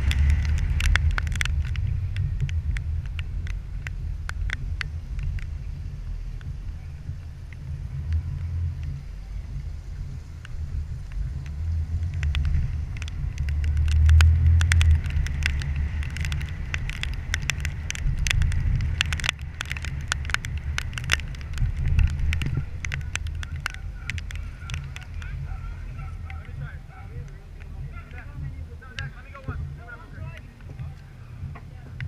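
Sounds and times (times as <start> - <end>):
road rumble: 0.0 - 32.0
sharp clicks and crackles: 0.0 - 32.0
wind buffeting: 0.0 - 32.0.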